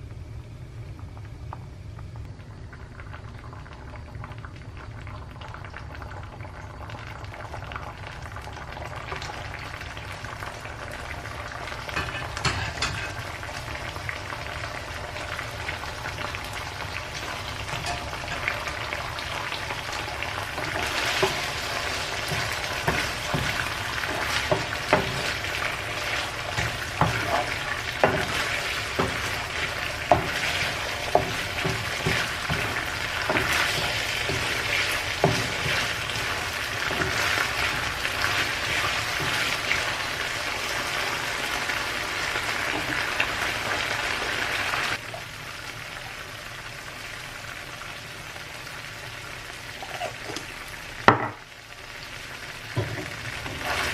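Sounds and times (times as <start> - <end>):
food sizzling in a pan: 2.9 - 53.9.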